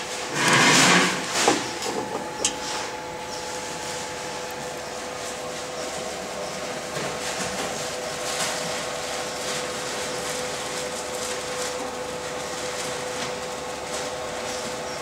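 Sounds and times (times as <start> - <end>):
laser engraver fans whirring: 0.0 - 15.0.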